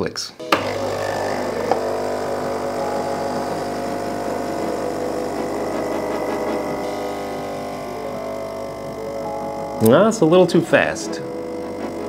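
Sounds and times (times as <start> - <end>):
espresso machine pump running: 0.4 - 12.0.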